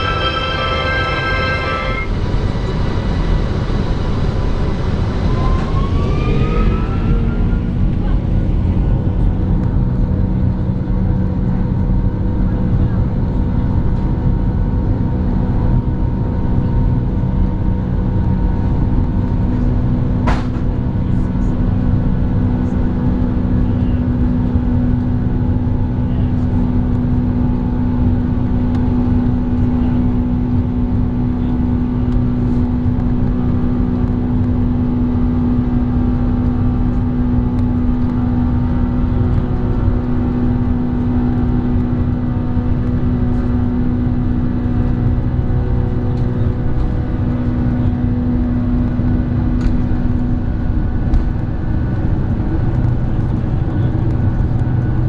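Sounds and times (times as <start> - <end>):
jet engines and airflow rushing: 0.0 - 12.1, 16.0 - 55.0
steady low hum: 6.9 - 55.0.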